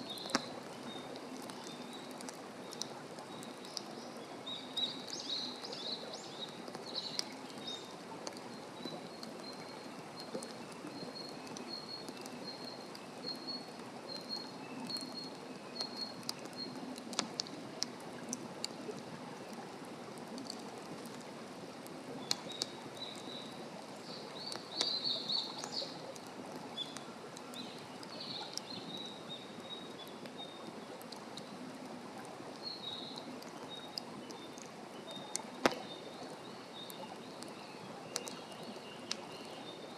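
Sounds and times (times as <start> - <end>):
small birds chirping: 0.0 - 17.5, 22.2 - 31.0, 32.6 - 39.9
campfire crackling and popping: 0.0 - 39.7.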